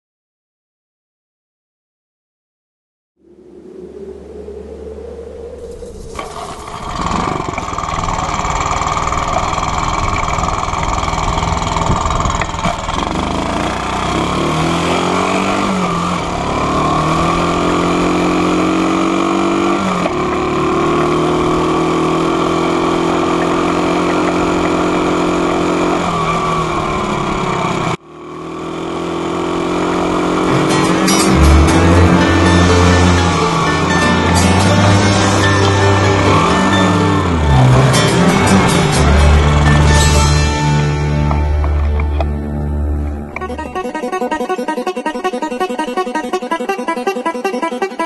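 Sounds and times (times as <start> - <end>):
motorcycle engine revving: 5.6 - 48.0.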